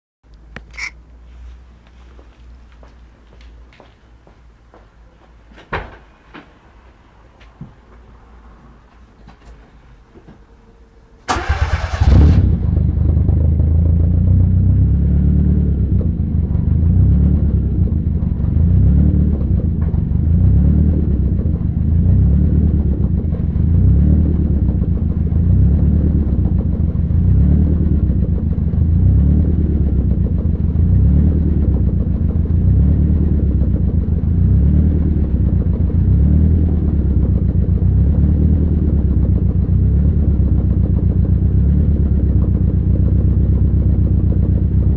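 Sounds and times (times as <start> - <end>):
car engine starting and idling: 7.8 - 44.9.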